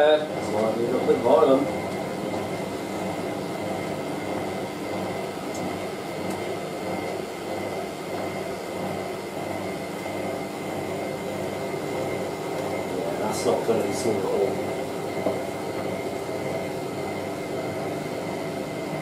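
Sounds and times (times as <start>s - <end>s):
washing machine drum churning: 0.0s - 19.0s
washing machine motor whine: 0.0s - 19.0s.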